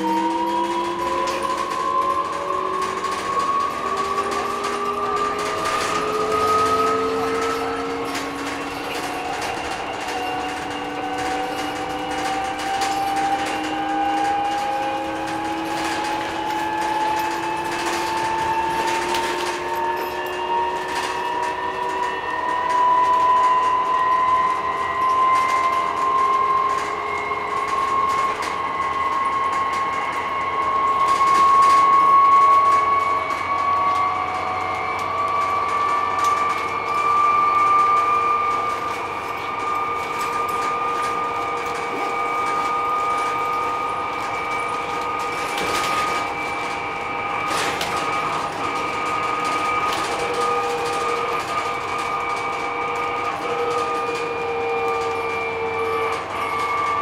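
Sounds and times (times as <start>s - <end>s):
electric bus drive whine: 0.0s - 57.0s
rattles and knocks: 0.0s - 57.0s.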